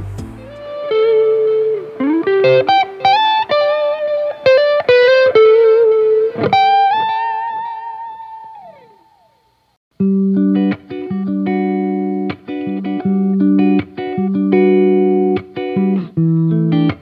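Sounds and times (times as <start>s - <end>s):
overdriven electric guitar lead: 0.1s - 17.0s.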